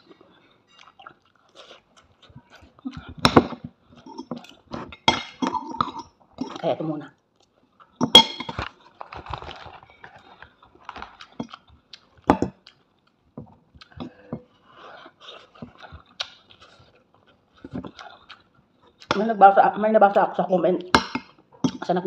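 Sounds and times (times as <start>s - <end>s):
chewing: 0.0s - 21.9s.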